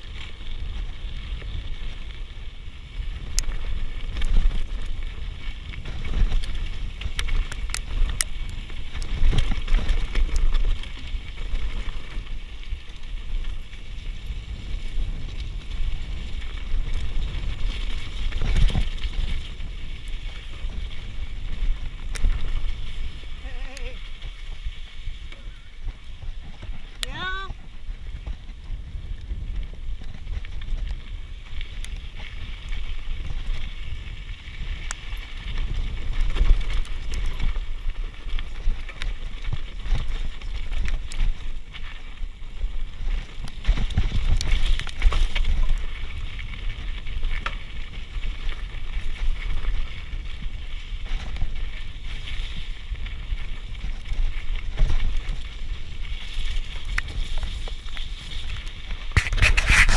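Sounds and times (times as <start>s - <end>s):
bike rattles and clicks: 0.0s - 59.9s
bike tyre noise: 0.0s - 59.9s
wind on microphone: 0.0s - 59.9s.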